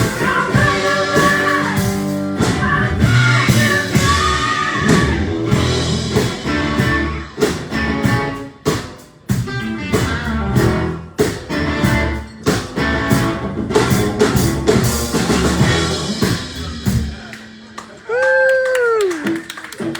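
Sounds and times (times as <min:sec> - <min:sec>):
rock band playing: 0:00.0 - 0:19.9.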